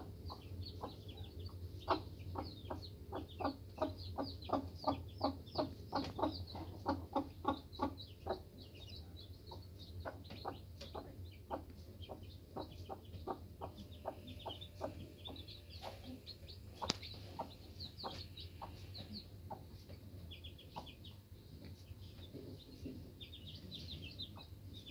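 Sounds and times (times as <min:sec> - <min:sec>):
chicks peeping: 0:00.0 - 0:24.9
hen clucking: 0:00.0 - 0:24.9.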